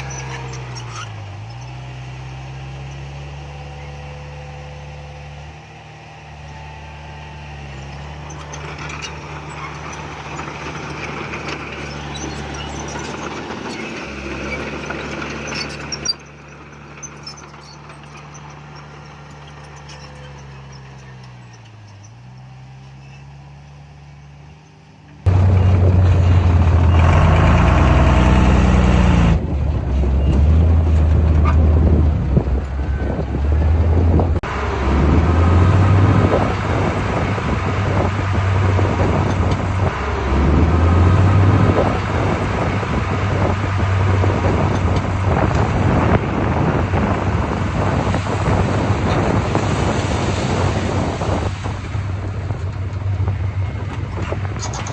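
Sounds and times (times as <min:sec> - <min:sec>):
diesel machinery engine drone: 0:00.0 - 0:54.9.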